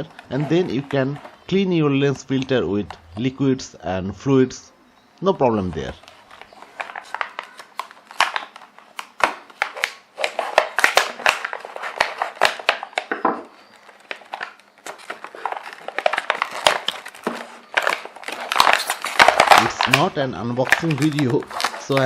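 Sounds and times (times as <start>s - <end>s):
packaging crinkling and rustling: 0.0s - 1.5s, 5.7s - 22.0s.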